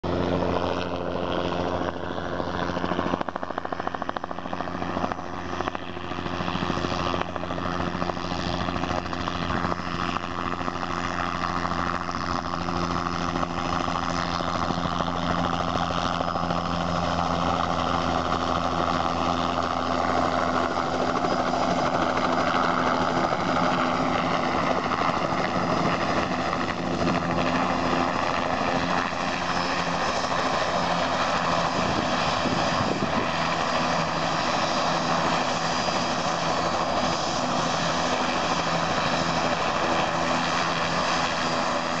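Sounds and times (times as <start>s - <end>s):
helicopter rotor drone: 0.0s - 42.0s
helicopter turbine whine: 0.0s - 42.0s.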